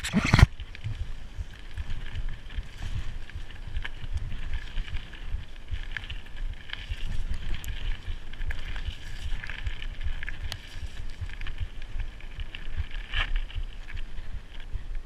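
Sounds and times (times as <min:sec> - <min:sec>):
bike rattling: 0:00.0 - 0:15.0
bike tyres on dirt: 0:00.0 - 0:15.0
wind buffeting thumps: 0:00.0 - 0:15.0.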